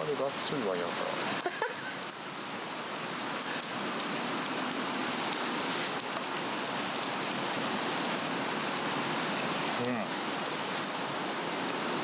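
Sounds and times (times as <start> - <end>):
fire hissing: 0.0 - 12.0
log fire crackling: 0.0 - 12.0.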